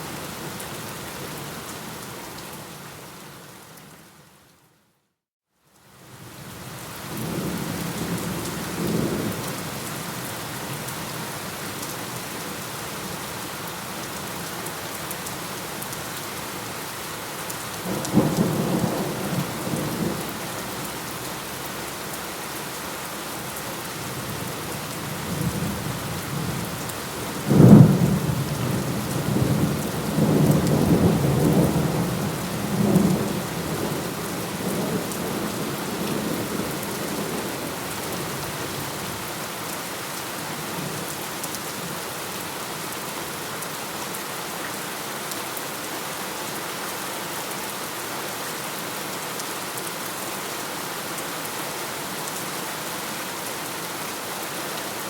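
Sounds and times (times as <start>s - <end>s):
steady rain: 0.0s - 4.8s, 5.6s - 55.0s.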